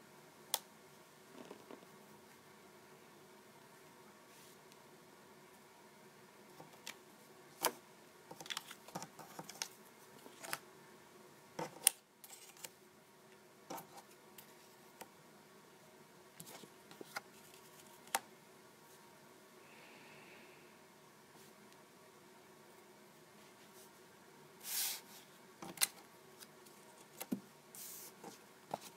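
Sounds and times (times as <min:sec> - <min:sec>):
faint steady hiss: 0:00.0 - 0:28.9.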